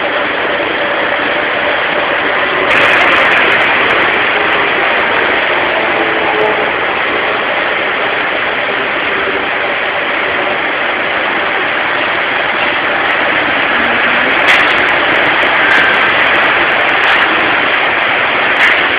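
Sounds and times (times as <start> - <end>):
car wash brushes and machinery: 0.0 - 18.9.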